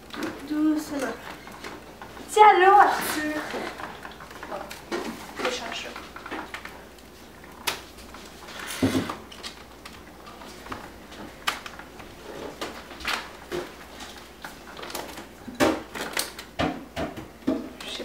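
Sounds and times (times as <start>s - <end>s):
plastic crinkling: 0.0s - 16.6s.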